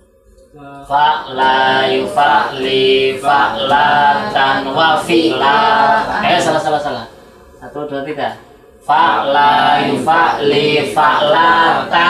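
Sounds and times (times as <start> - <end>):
men chanting in unison: 0.6 - 7.2, 8.8 - 12.0.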